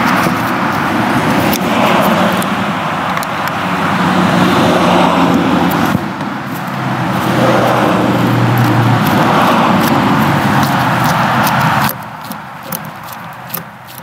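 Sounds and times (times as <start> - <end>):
low engine hum: 0.0 - 14.0
road traffic noise: 0.0 - 14.0.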